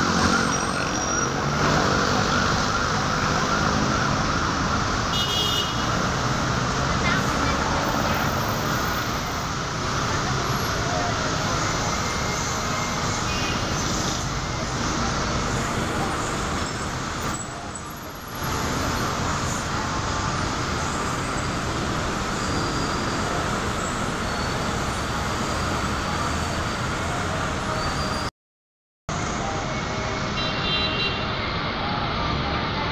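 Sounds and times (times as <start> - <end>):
heavy city traffic roar: 0.0 - 28.3, 29.1 - 32.9.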